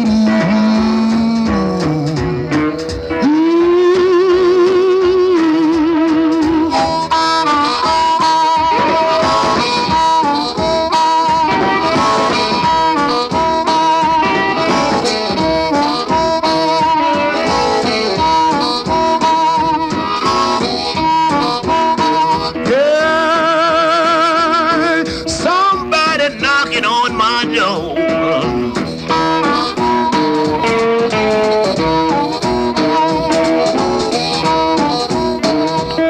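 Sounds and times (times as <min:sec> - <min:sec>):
blues band rhythm: 0:00.0 - 0:36.0
harmonica wavering notes: 0:00.0 - 0:36.0.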